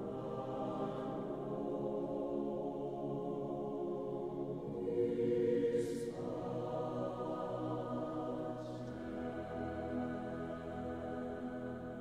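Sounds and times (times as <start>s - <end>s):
ambient choir-like chords: 0.0s - 12.0s.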